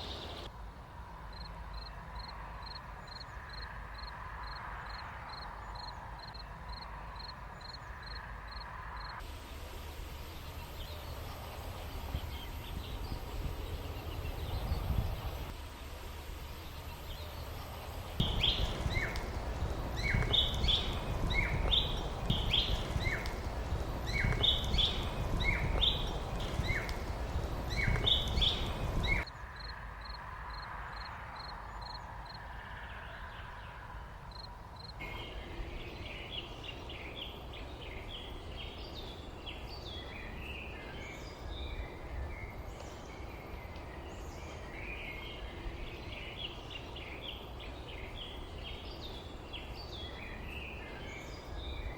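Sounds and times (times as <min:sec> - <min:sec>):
birds chirping: 0:00.0 - 0:00.5, 0:01.3 - 0:29.8, 0:30.9 - 0:51.9.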